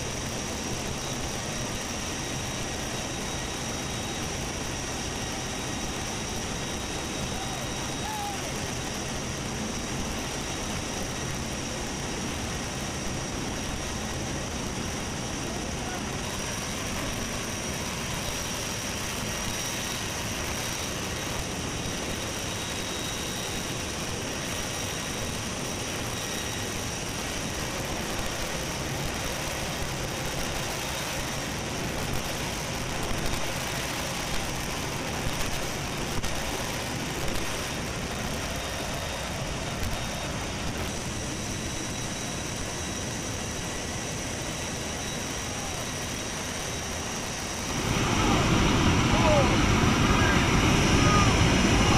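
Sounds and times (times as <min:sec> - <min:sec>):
jet engines droning: 0:00.0 - 0:51.9.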